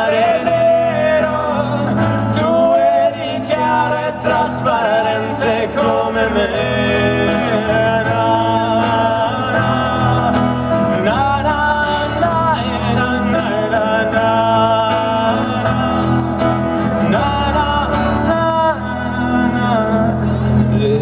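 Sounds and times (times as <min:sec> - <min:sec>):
live band playing pop song: 0:00.0 - 0:21.0
steady bass: 0:00.0 - 0:21.0.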